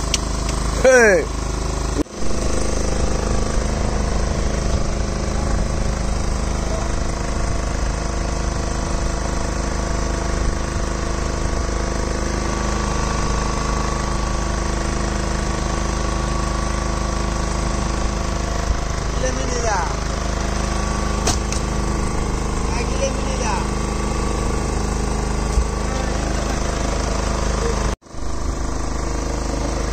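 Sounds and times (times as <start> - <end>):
small engine idling: 0.0 - 29.9.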